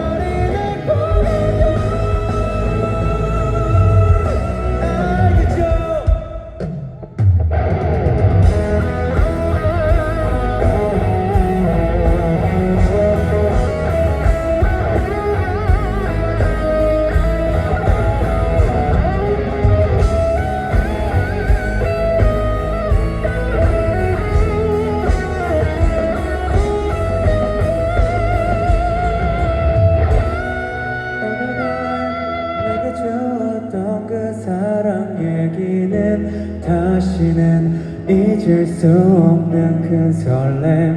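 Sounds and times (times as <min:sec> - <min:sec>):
drums: 0:00.0 - 0:33.0
bass guitar: 0:00.0 - 0:40.9
electric guitar lead: 0:00.0 - 0:40.9.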